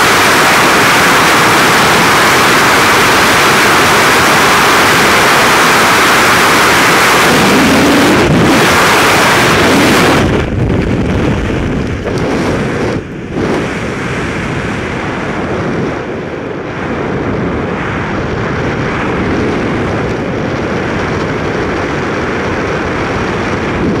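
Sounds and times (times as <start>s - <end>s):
freefall wind roaring on microphone: 0.0s - 24.0s
soft wind noise: 0.0s - 24.0s.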